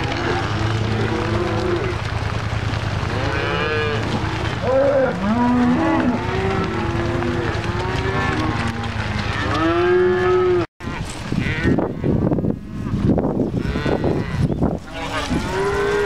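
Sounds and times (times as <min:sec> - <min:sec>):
cattle mooing and bawling: 0:00.0 - 0:12.3, 0:13.5 - 0:16.0.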